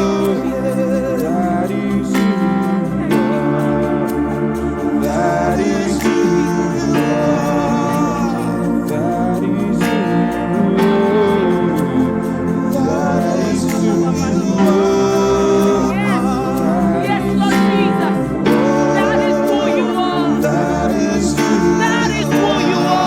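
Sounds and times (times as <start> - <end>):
voices singing: 0.0 - 23.0
worship band playing: 0.0 - 23.0.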